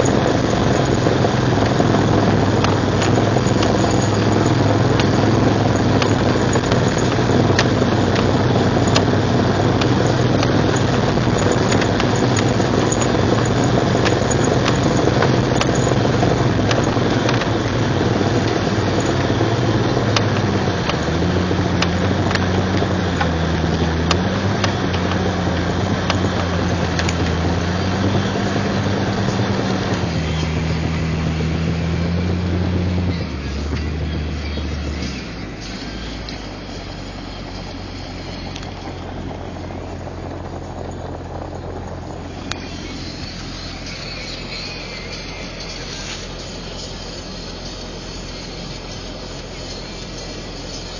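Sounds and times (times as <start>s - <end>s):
engine hum: 0.0s - 50.9s
grinding from front axle: 0.0s - 50.9s.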